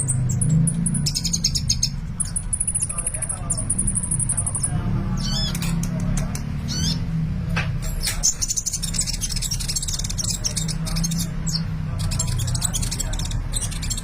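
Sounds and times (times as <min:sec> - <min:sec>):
bird singing chirps and trills: 0:00.0 - 0:14.0.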